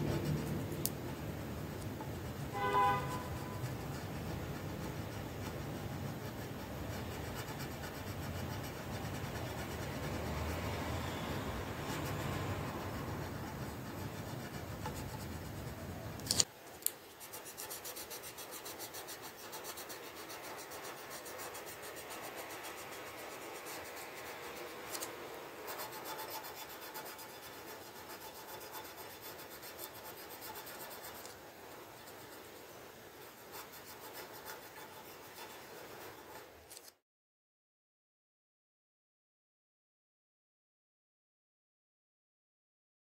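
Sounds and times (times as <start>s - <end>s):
pencil scratching on paper: 0.0s - 36.9s.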